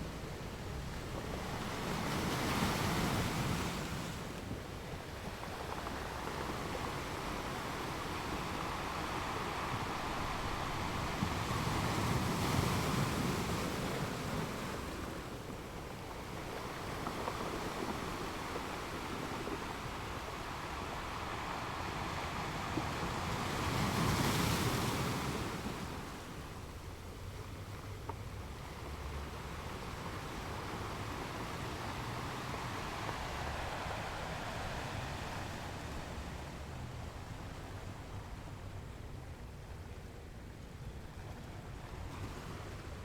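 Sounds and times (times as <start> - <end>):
ocean waves washing on shore: 0.0 - 43.0.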